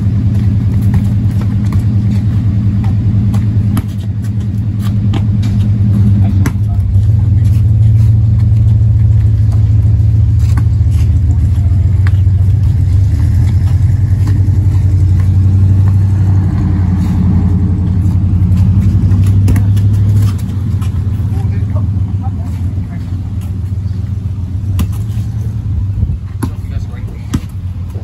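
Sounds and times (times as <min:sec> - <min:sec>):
basketball bouncing on concrete: 0:00.0 - 0:22.2, 0:23.2 - 0:25.4, 0:26.1 - 0:28.0
loud low motor hum: 0:00.0 - 0:28.0.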